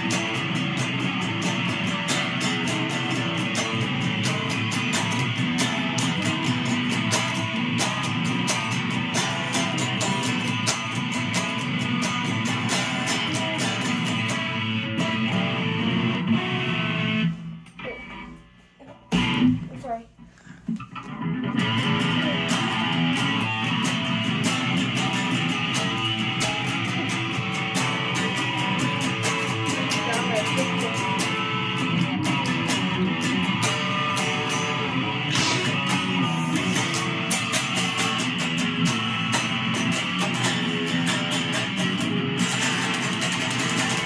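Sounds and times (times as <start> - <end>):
electric guitar riff: 0.0 - 44.0
rock band music: 0.0 - 44.0.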